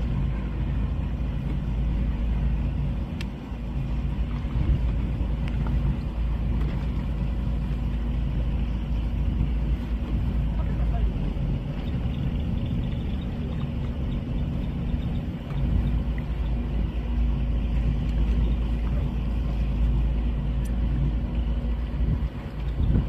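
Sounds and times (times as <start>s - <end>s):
motorboat engine rumbling: 0.0s - 23.0s
wind noise on microphone: 0.0s - 23.0s.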